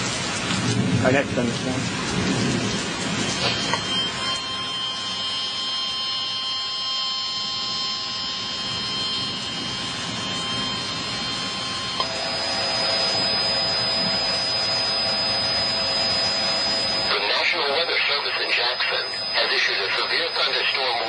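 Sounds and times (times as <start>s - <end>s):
heavy rain: 0.0s - 6.4s, 8.4s - 21.0s
faint electronic tones: 3.2s - 21.0s.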